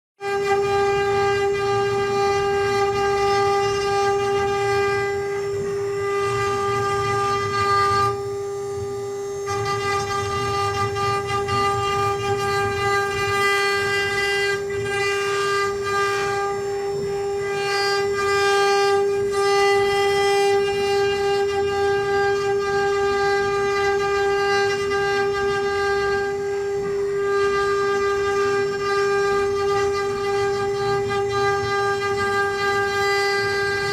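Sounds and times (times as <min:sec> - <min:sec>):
wood-carving spindle whining: 0:00.2 - 0:33.9.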